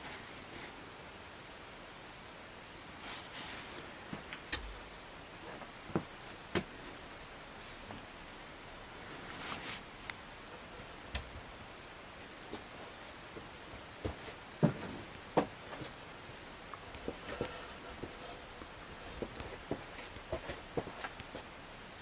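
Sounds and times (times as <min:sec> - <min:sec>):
ceiling fan running quietly: 0:00.0 - 0:22.0.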